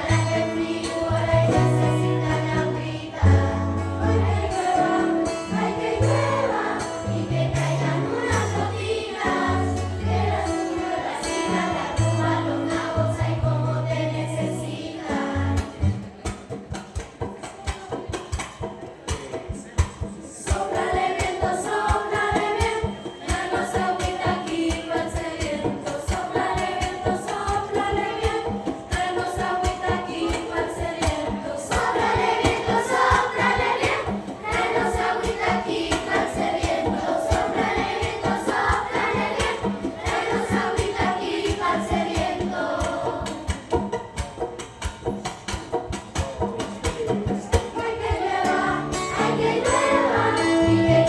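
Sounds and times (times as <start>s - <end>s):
choir singing: 0.0s - 16.1s, 20.3s - 44.0s, 46.8s - 51.0s
rhythmic accompaniment: 0.0s - 51.0s.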